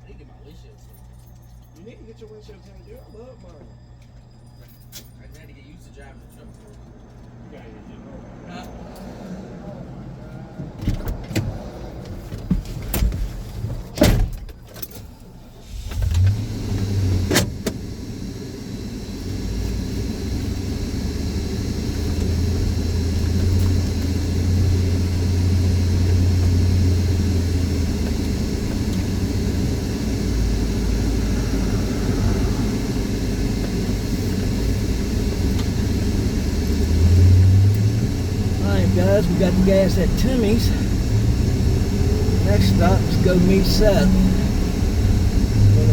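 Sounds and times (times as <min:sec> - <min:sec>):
truck engine and road noise: 0:00.0 - 0:45.9.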